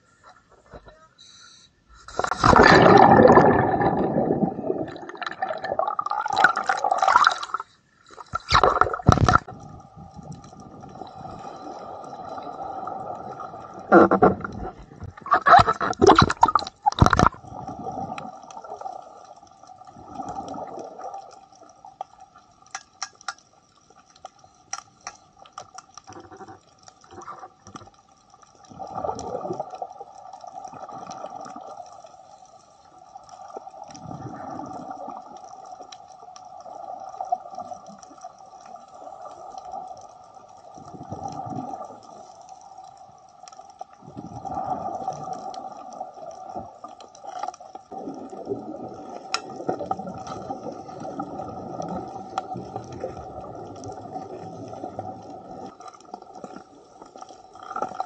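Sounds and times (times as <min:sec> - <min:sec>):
exhaled bubbles gurgling underwater: 0:02.2 - 0:22.6, 0:26.1 - 0:32.3, 0:32.9 - 0:58.0.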